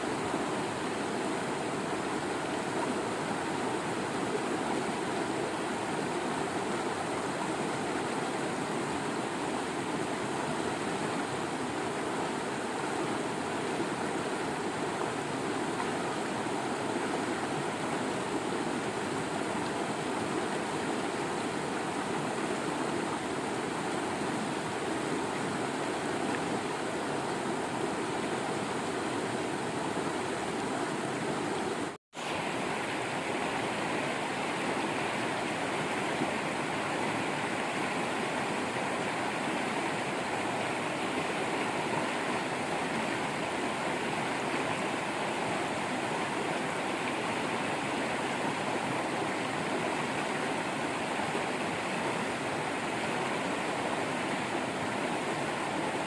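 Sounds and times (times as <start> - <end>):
waterfall water running: 0.0 - 56.0.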